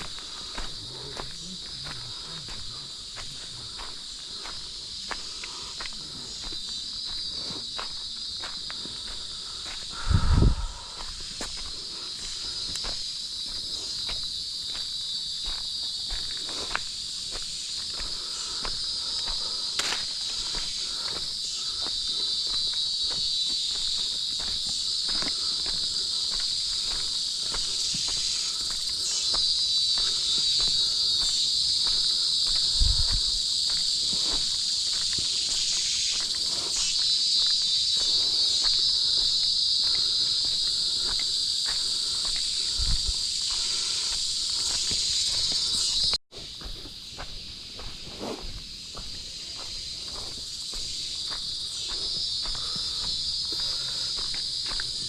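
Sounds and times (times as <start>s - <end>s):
footsteps on a trail: 0.0s - 55.0s
insects chorus: 0.0s - 55.0s.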